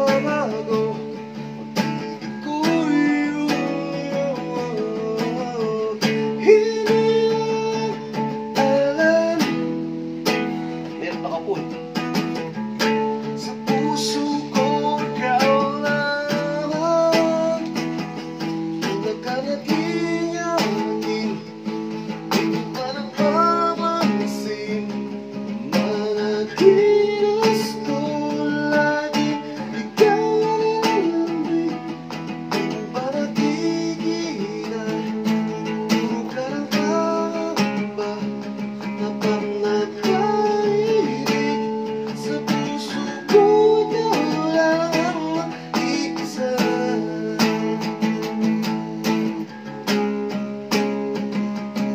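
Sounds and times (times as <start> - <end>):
acoustic guitar strumming: 0.0 - 51.9
person singing: 0.0 - 51.9.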